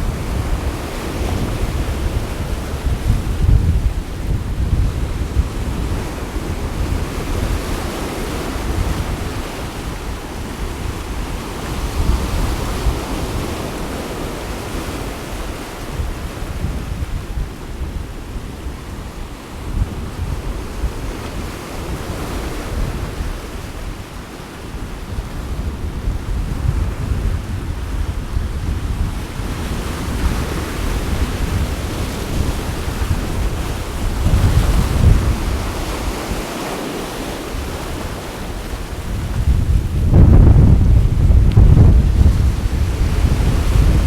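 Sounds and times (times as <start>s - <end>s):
sea waves washing on shore: 0.0s - 44.0s
wind buffeting microphone: 0.0s - 44.0s.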